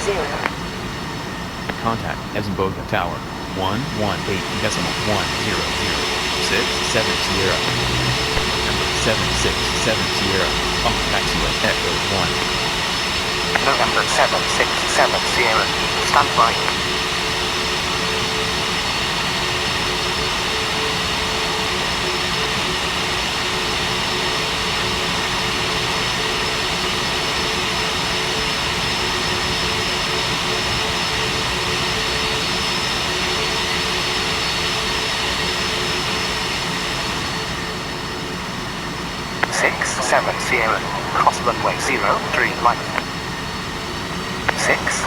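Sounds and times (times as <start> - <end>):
jet engines running with whine: 0.0 - 45.0.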